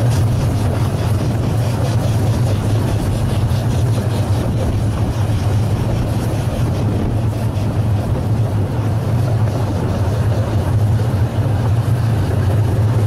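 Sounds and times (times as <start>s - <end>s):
miniature steam train rumbling: 0.0s - 13.0s.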